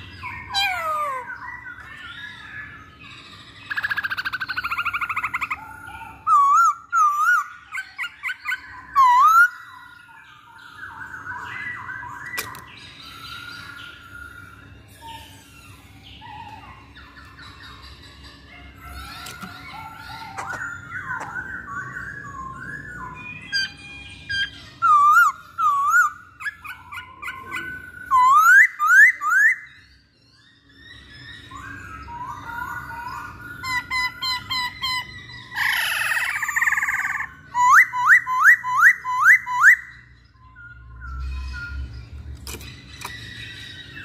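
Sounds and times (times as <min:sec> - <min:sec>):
bird singing whistles and chatters: 0:00.0 - 0:42.0.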